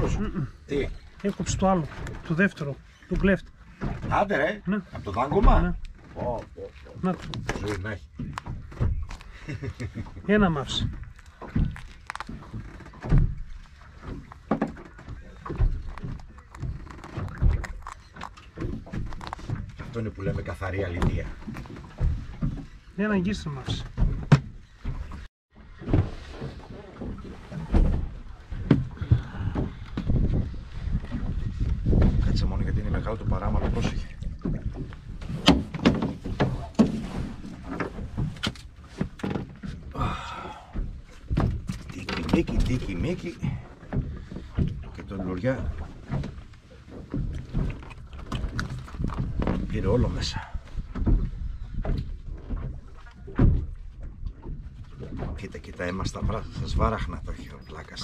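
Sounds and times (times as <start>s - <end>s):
low thumps and knocks: 3.1s - 57.5s.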